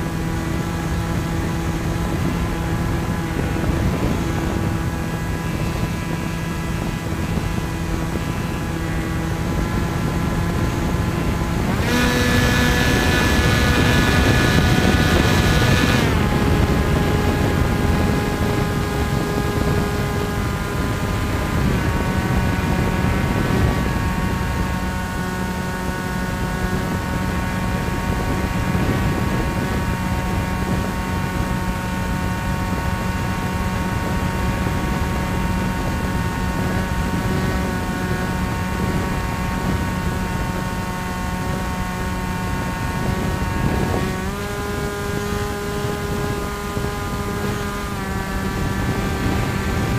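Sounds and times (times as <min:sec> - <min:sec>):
electric motor and propeller whine: 0:00.0 - 0:49.9
wind rush: 0:00.0 - 0:49.9.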